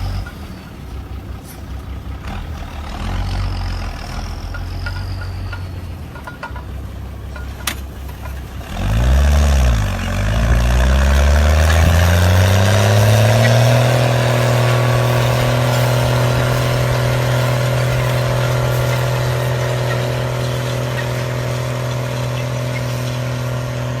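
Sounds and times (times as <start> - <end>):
heavy diesel engine revving: 0.0 - 24.0.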